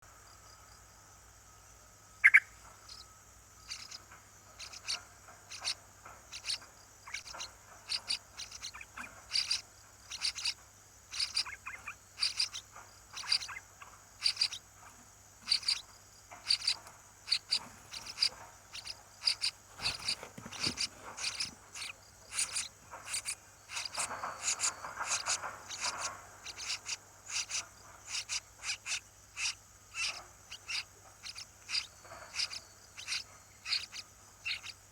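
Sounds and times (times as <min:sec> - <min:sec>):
small birds chirping: 0:01.7 - 0:34.9.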